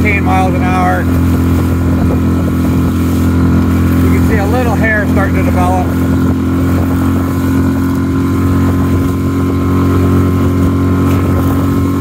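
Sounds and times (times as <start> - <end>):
outboard motor running: 0.0 - 12.0
rush of water and wind: 0.0 - 12.0.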